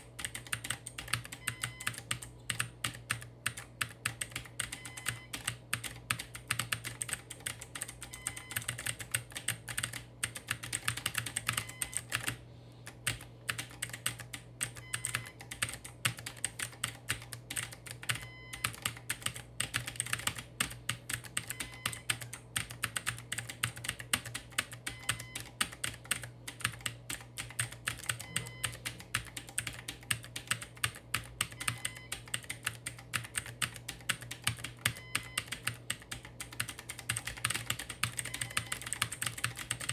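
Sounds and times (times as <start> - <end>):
fast typing on clacky keyboard: 0.0 - 39.9.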